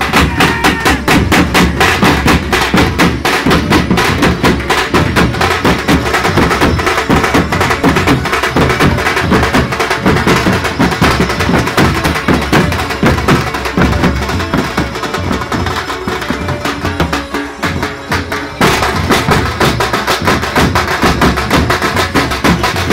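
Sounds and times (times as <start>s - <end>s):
drums beaten with sticks: 0.0s - 22.9s
jingling frame drums: 0.0s - 22.9s.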